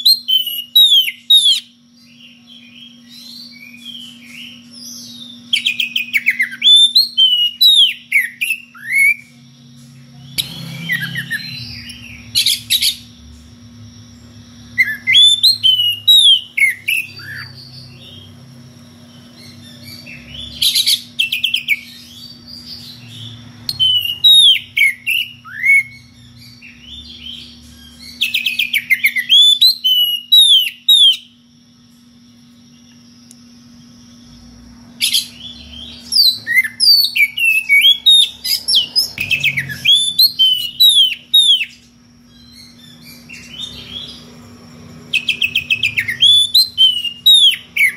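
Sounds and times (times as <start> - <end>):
bird singing whistled song: 0.0 - 13.1, 14.6 - 18.4, 19.1 - 31.4, 35.0 - 44.3, 45.1 - 47.9
steady low hum: 0.0 - 47.9.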